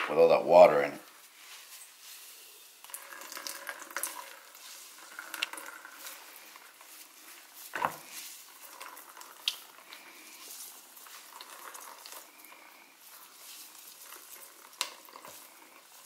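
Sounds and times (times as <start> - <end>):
water dripping and trickling: 1.0 - 16.0.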